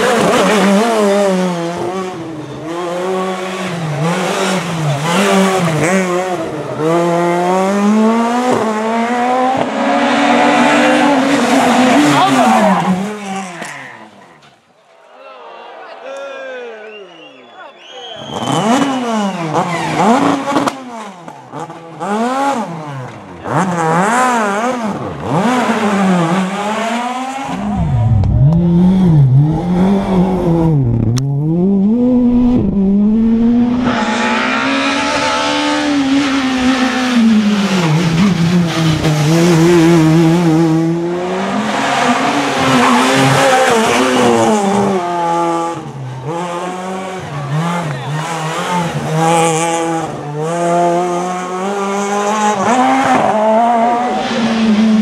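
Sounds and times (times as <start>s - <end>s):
rally car engines revving: 0.0s - 14.5s, 18.2s - 55.0s.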